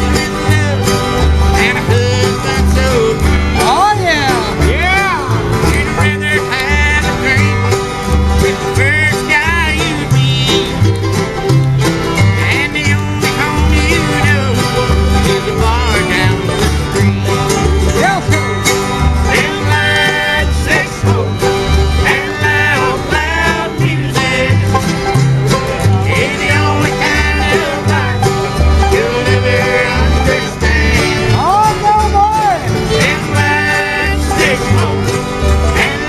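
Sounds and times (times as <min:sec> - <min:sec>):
bluegrass band playing: 0:00.0 - 0:36.0.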